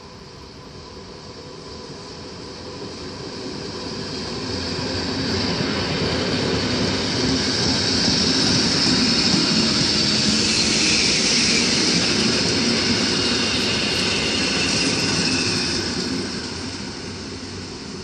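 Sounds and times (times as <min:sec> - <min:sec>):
electric train rolling on rails: 0:00.0 - 0:18.0.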